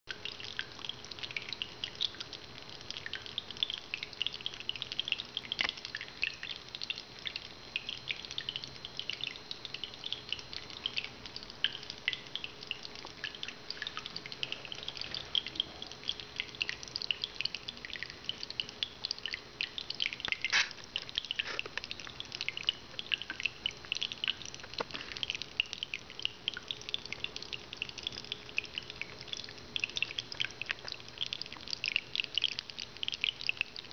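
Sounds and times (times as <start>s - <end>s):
faint water pump hum: 0.1s - 33.9s
fountain water trickling and dripping: 0.1s - 33.9s.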